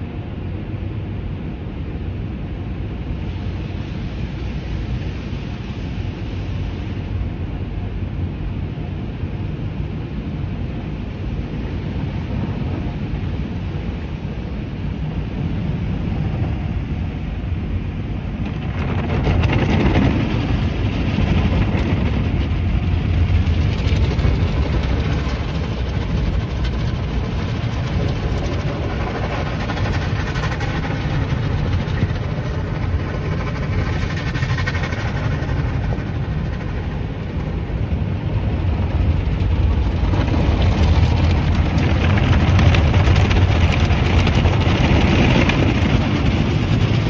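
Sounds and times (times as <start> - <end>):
car wash water spray and machinery: 0.0 - 47.0.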